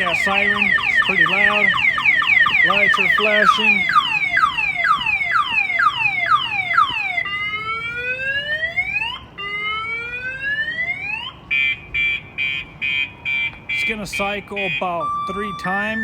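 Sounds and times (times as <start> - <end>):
car alarm siren: 0.0 - 16.0.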